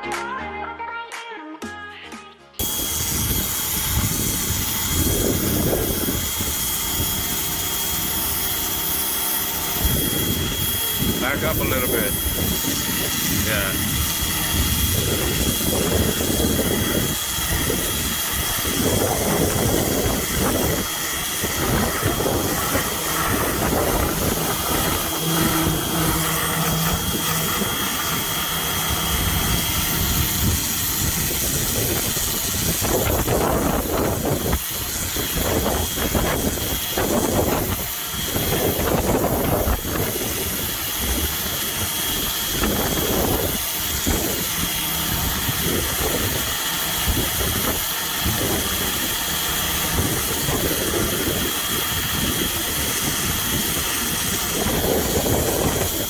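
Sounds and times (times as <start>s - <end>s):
motor hum and whine: 2.6s - 56.0s
pressure washer jet hissing: 2.6s - 56.0s.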